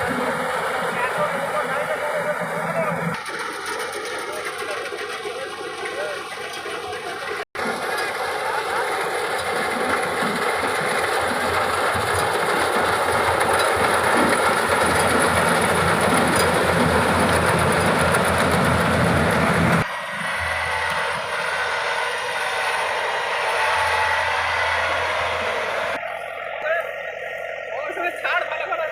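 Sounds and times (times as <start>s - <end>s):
combine harvester running: 0.0s - 28.9s.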